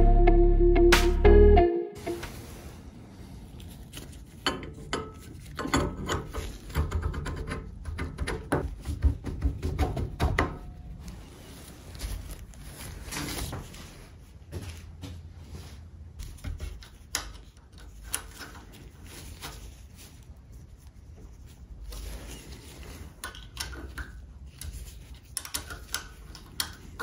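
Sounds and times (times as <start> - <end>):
gloved-hand handling noise: 2.1 - 9.0, 10.7 - 15.3, 16.0 - 27.0.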